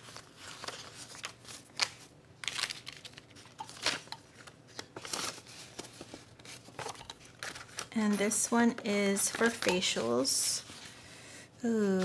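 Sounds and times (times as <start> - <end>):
paper money rustling: 0.0 - 10.9.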